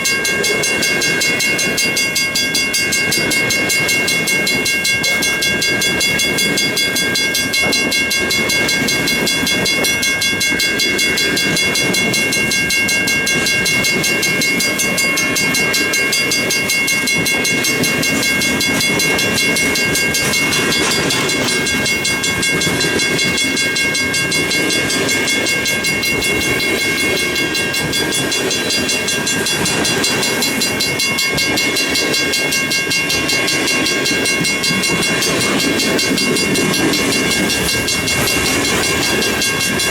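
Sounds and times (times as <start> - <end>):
high-pitched ringing tones: 0.0 - 39.9
train wheels rumbling on rail: 0.0 - 39.9.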